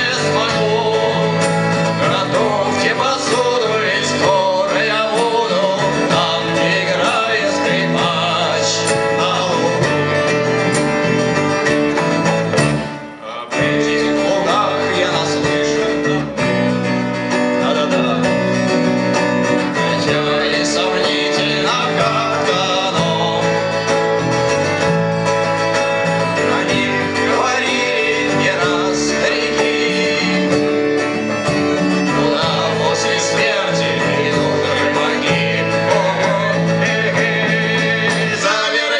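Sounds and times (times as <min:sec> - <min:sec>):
band playing with guitar: 0:00.0 - 0:38.9.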